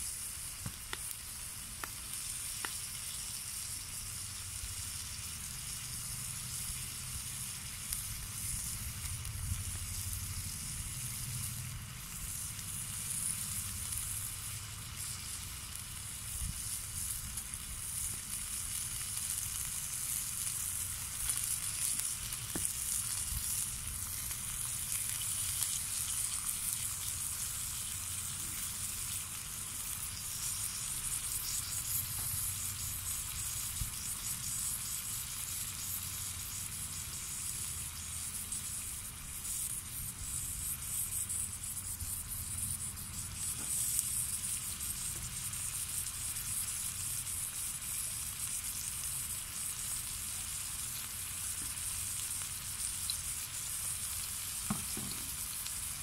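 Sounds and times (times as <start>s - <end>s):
fire crackling pops: 0.0s - 56.0s
hiss of flame: 0.0s - 56.0s.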